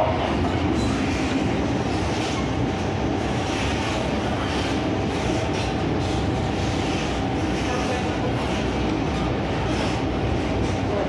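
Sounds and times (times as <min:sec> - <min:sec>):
train wheels and motors rumbling: 0:00.0 - 0:11.0.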